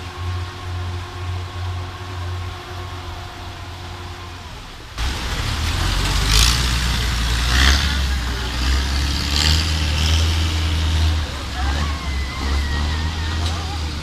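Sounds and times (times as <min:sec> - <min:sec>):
engine rumbling: 0:00.0 - 0:14.0
rushing noise: 0:00.0 - 0:14.0.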